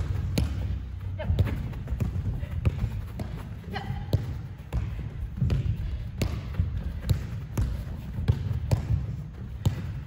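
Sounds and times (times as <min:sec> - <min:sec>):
soccer ball kicks on turf: 0:00.0 - 0:10.0.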